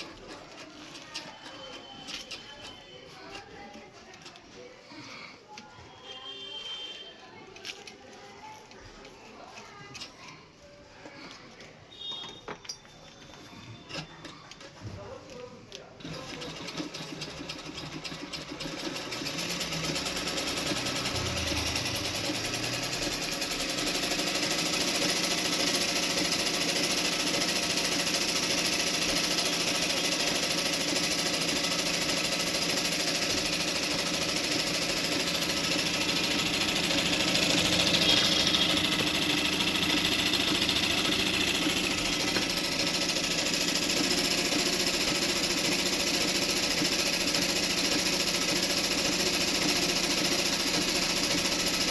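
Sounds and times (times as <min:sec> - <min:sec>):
sewing machine rattling: 0:00.0 - 0:04.5, 0:13.8 - 0:51.9.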